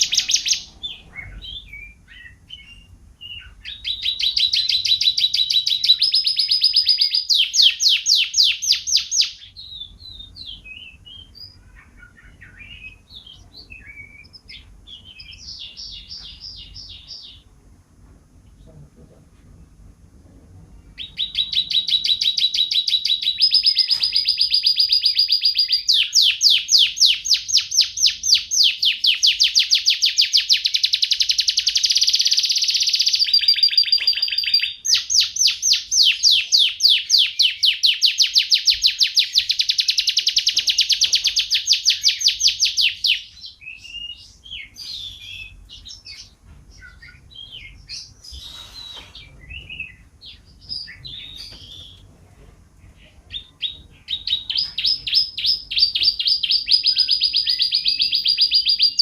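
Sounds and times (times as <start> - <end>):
canary singing rolling trills: 0.0 - 17.9, 20.7 - 52.1, 52.8 - 59.0.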